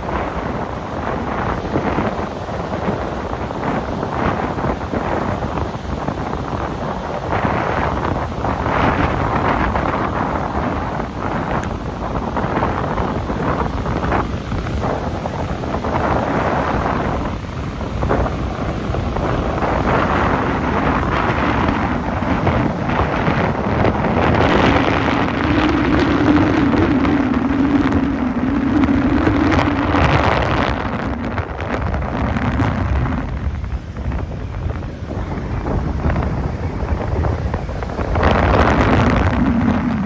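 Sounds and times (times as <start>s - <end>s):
high surf rushing: 0.0s - 40.0s
wind buffeting microphone: 0.0s - 40.0s.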